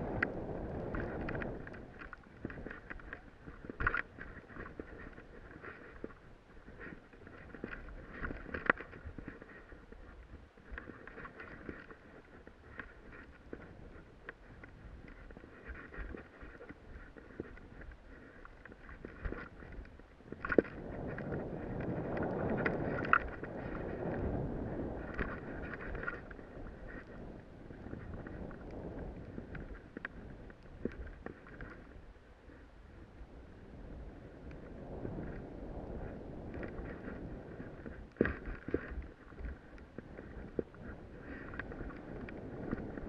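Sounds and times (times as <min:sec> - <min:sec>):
wind on microphone: 0:00.0 - 0:43.0.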